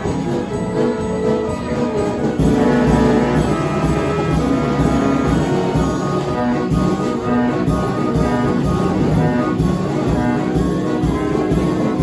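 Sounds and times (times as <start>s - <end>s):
drumbeat: 0.0s - 12.0s
organ pipes holding notes: 0.0s - 12.0s.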